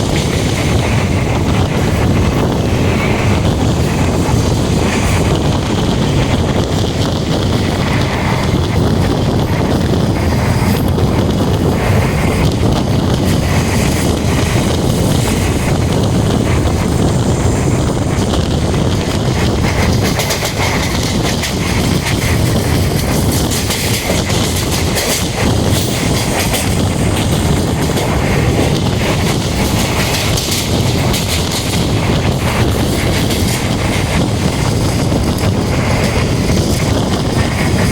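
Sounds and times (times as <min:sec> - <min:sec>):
rapid clatter of clicks: 0:00.0 - 0:37.9
train wheels rumbling on rails: 0:00.0 - 0:37.9.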